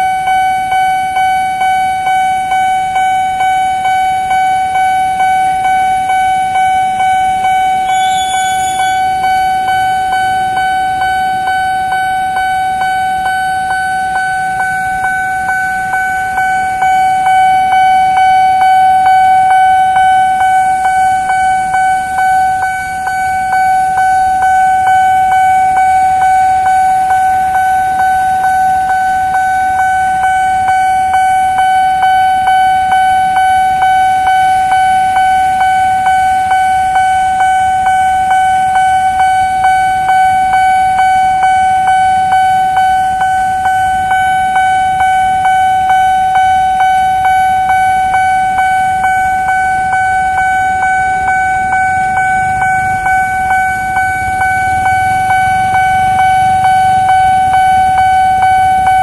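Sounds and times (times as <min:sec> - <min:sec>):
level crossing alarm dinging: 0:00.0 - 0:59.0.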